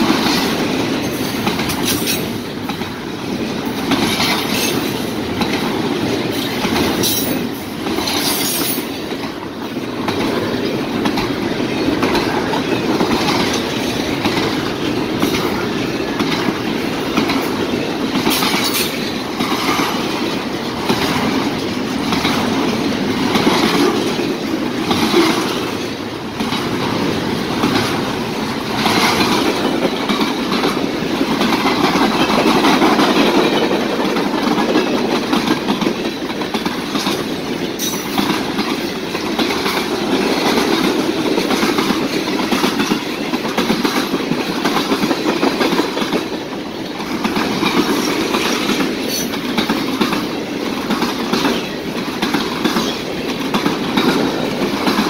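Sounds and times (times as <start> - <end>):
steel wheels rumbling on rail: 0.0 - 55.0
wheels clacking over rail joints: 0.0 - 55.0.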